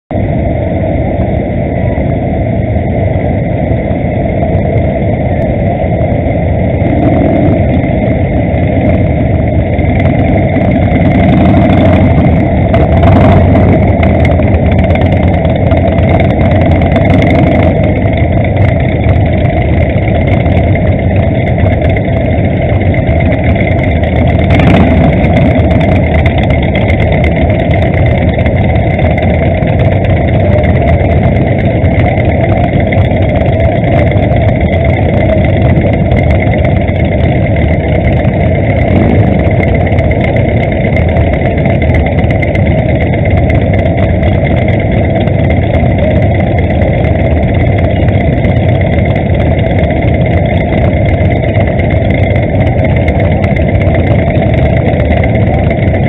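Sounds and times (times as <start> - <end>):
motorcycle engines idling: 0.1 - 56.0.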